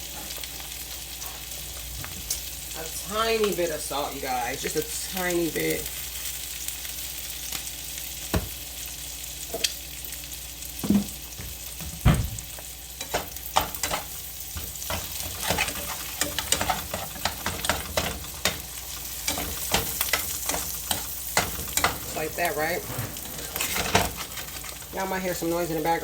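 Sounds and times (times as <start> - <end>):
eggs sizzling in a skillet: 0.0 - 26.0.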